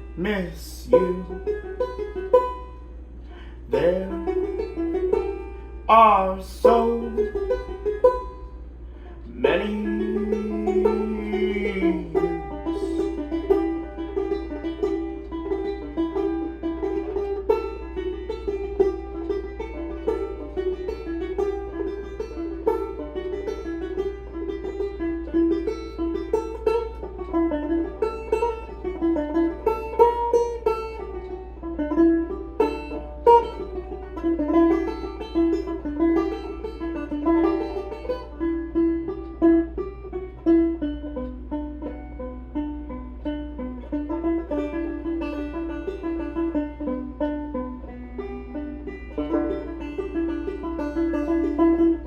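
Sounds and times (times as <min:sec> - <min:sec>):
constant low hum: 0:00.0 - 0:52.0
plucked string instrument: 0:00.0 - 0:52.0.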